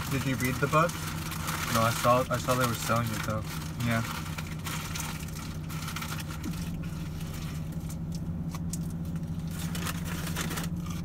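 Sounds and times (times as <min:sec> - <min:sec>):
food packaging rustling: 0:00.0 - 0:08.1, 0:08.9 - 0:11.0
car engine idling: 0:00.0 - 0:11.0.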